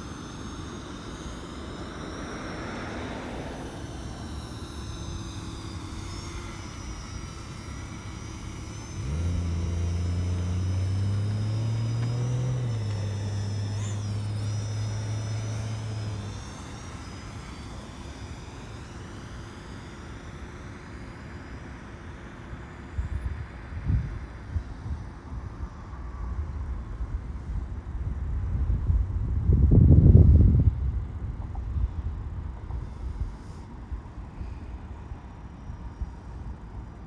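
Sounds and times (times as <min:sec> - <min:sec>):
faint high wavering whine: 0:00.0 - 0:37.0
outdoor background: 0:00.0 - 0:37.0
vehicle engine hum: 0:00.0 - 0:37.0.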